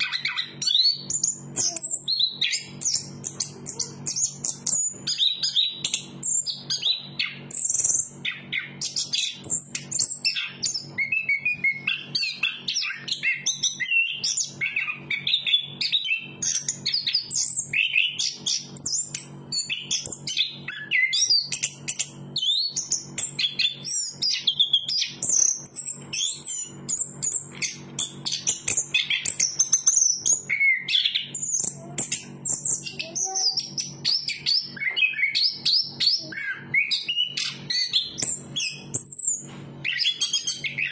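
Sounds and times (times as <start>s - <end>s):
bird song whistles and trills: 0.0s - 40.9s.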